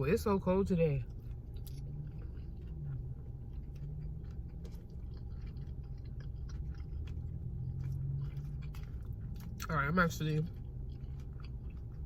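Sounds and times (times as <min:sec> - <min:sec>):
low hum: 0:00.0 - 0:12.0
close-up chewing: 0:00.8 - 0:12.0.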